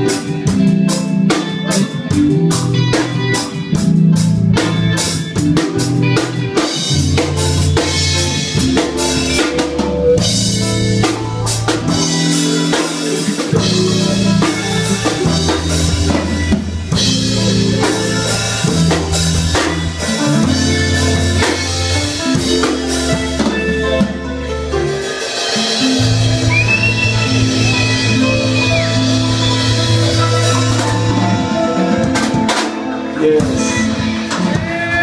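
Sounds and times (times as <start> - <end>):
drum kit: 0.0 - 35.0
electric bass line: 0.0 - 35.0
electric guitar: 0.0 - 35.0.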